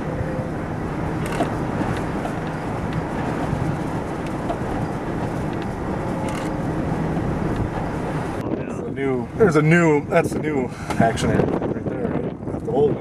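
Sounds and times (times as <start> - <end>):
low vehicle hum: 0.0 - 13.0
wind buffeting microphone: 0.0 - 13.0.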